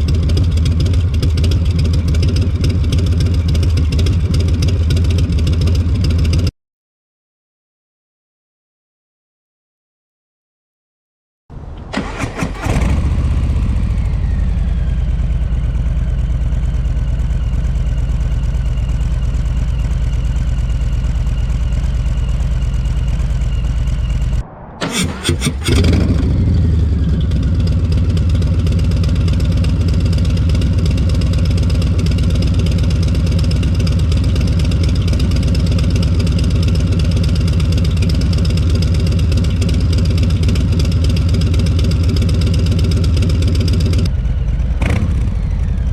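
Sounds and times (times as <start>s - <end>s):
motorcycle engine idling: 0.0s - 6.5s, 12.9s - 24.4s, 25.7s - 45.9s
motorcycle engine revving: 0.0s - 6.5s, 11.9s - 45.9s.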